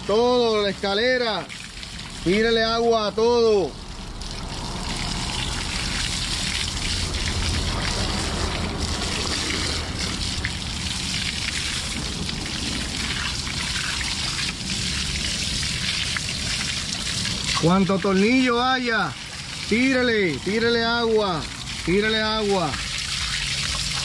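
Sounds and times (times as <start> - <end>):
hose spraying water on motor: 0.0 - 24.0.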